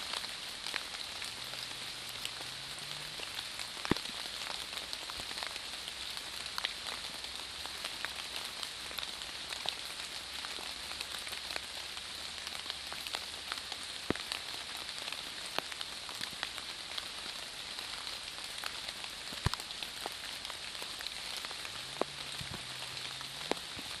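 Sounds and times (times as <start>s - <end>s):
water drops on leaf litter: 0.0s - 24.0s.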